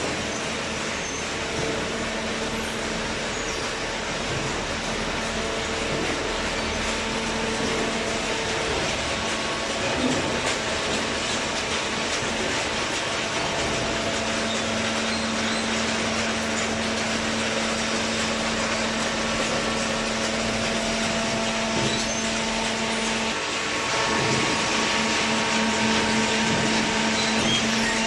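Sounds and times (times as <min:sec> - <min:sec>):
hydraulic baler motor running: 0:00.0 - 0:28.0.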